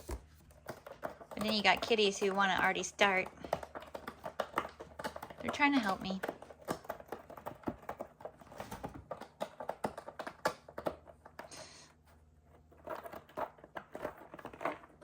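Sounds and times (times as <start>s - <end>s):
cardboard being handled and folded: 0.0s - 15.0s.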